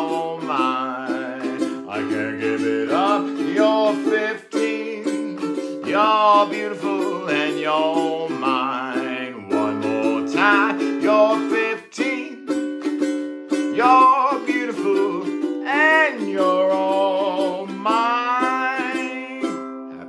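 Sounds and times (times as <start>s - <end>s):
acoustic string instrument strummed: 0.0s - 20.0s.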